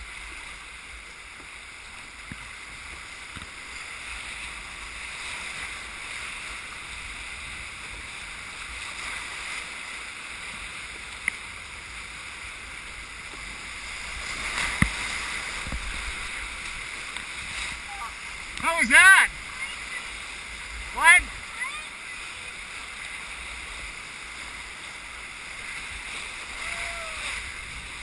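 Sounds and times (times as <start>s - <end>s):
river whitewater rushing: 0.0s - 28.0s.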